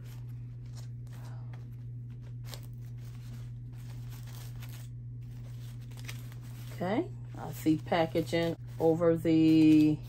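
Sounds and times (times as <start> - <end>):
fabric bag rustling: 0.0 - 10.0
steady low hum: 0.0 - 10.0.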